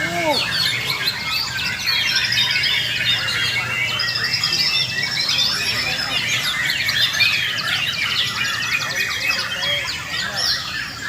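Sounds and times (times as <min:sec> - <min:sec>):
chorus of songbirds whistling: 0:00.0 - 0:11.0.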